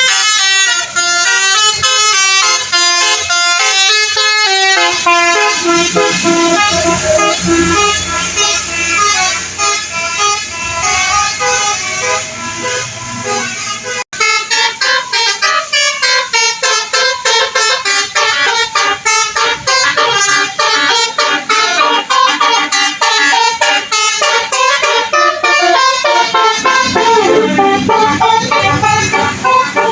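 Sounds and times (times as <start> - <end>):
musical bus air horn: 0.0 - 29.9.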